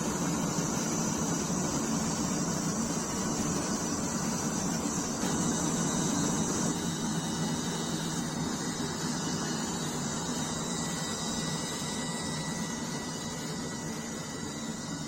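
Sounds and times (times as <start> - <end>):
faint thin whine: 0.0 - 15.0
furnace burner roaring: 0.0 - 15.0.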